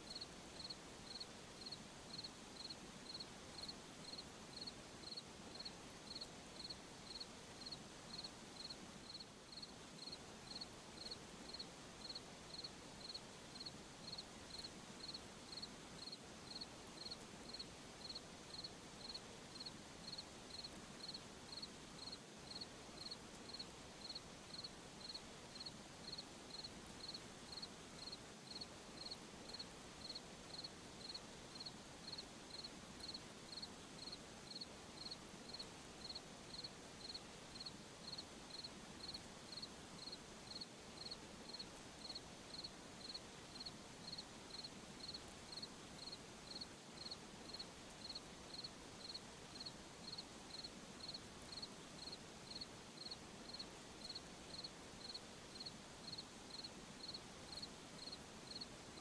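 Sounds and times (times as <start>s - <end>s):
faint night ambience hiss: 0.0s - 59.0s
cricket chirping: 0.1s - 59.0s.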